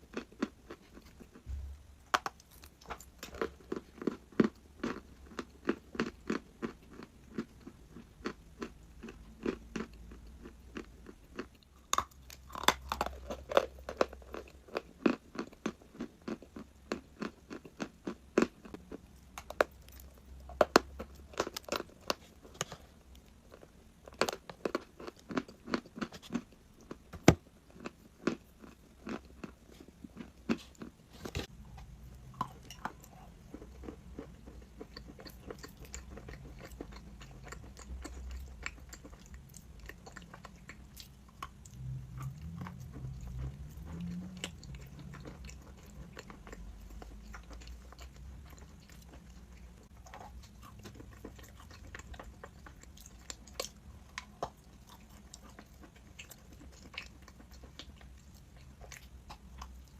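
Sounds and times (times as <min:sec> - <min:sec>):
chalk crunching while chewed: 0:02.2 - 0:59.9.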